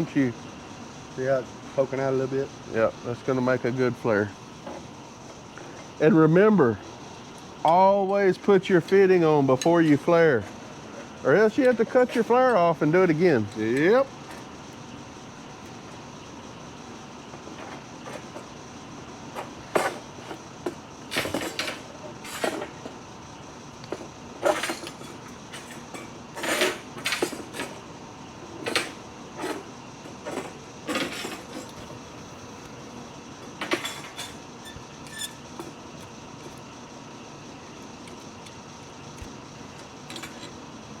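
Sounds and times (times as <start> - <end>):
steady background hum: 0.0 - 41.0.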